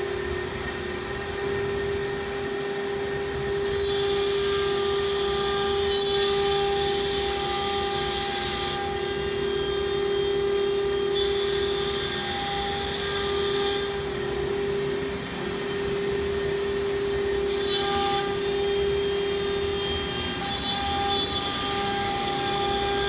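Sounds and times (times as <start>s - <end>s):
router spindle whining: 0.0s - 23.0s.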